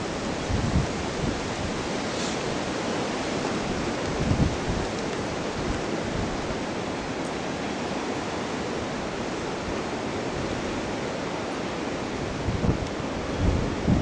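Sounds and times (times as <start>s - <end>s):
wind rushing through trees: 0.0s - 14.0s.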